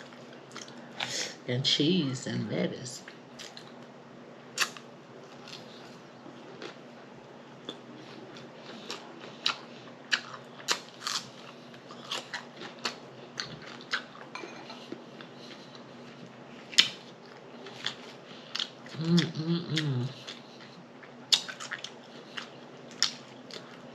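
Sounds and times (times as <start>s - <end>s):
chewing and lip smacking: 0.1s - 0.8s, 4.6s - 6.8s, 7.6s - 23.9s.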